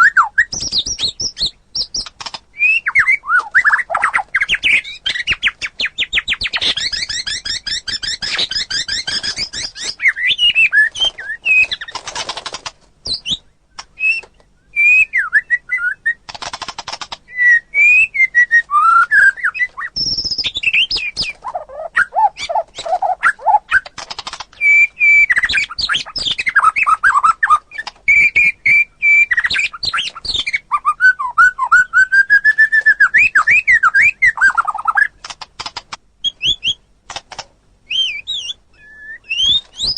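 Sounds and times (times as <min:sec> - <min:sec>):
bird singing whistles and trills: 0:00.0 - 0:12.0, 0:13.0 - 0:16.3, 0:17.3 - 0:23.9, 0:24.6 - 0:35.1, 0:36.2 - 0:36.9, 0:37.8 - 0:39.9.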